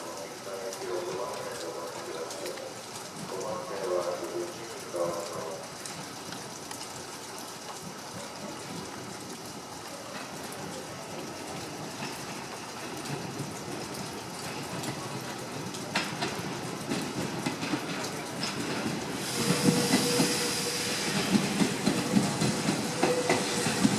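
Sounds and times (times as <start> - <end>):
electric train rumbling on track: 0.0 - 23.9
wheels clicking on rails: 0.0 - 23.9.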